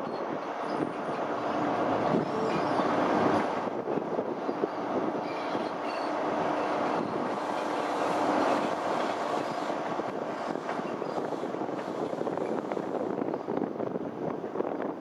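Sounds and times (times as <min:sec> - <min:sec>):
faint wheel squeal: 0:00.0 - 0:03.6, 0:04.4 - 0:13.6
train wheels rumbling on rail: 0:00.0 - 0:15.0.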